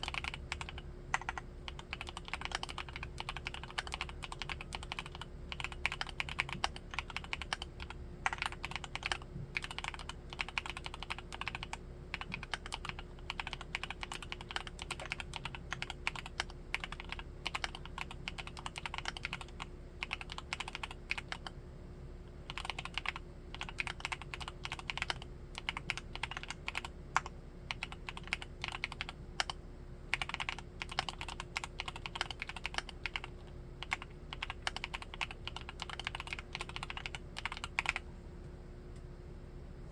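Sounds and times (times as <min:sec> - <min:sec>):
mechanical keyboard typing: 0:00.0 - 0:21.5, 0:22.4 - 0:38.1.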